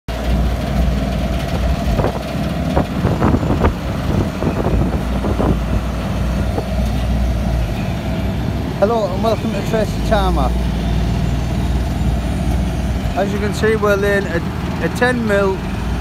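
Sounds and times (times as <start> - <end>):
diesel engine drone: 0.1 - 16.0
steady higher whine: 0.1 - 16.0.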